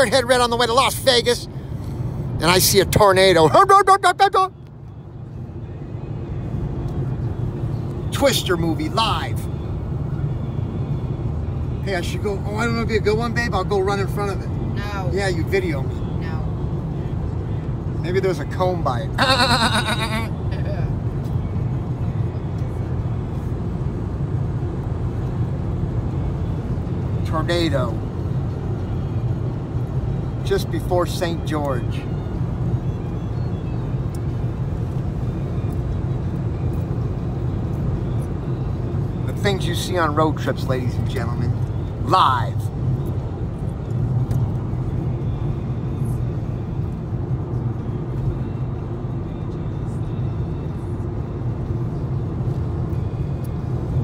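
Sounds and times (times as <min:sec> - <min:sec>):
car road rumble from inside: 0:00.0 - 0:54.0.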